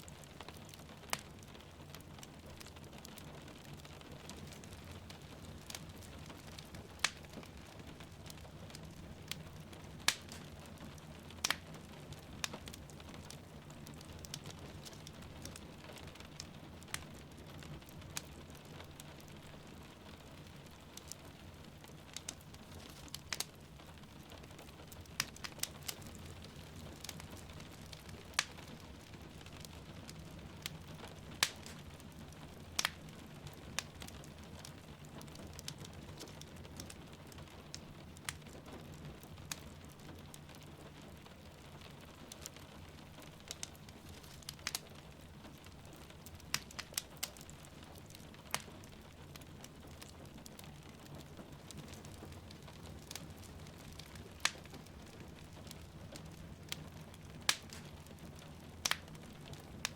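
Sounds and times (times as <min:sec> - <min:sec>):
soft rain: 0:00.0 - 0:59.9
wood fire crackling: 0:00.0 - 0:59.9.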